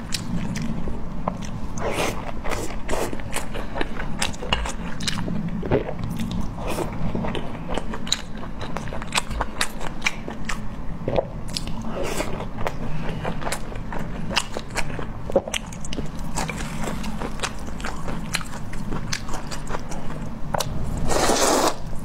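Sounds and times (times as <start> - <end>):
person chewing dumplings: 0.0 - 21.7.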